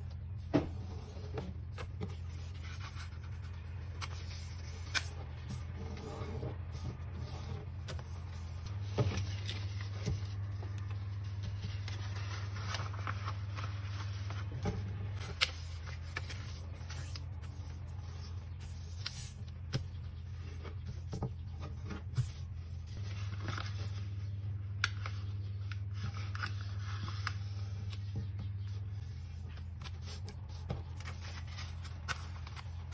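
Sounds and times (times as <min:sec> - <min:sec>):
steady low hum: 0:00.0 - 0:32.9
paper rustling and scraping: 0:00.2 - 0:32.9.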